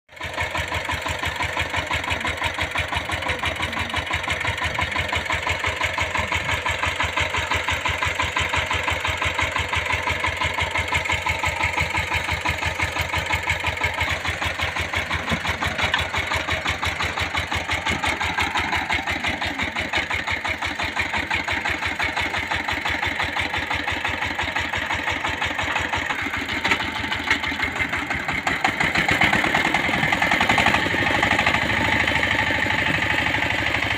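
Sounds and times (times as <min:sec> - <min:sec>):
engine chugging: 0:00.1 - 0:33.9.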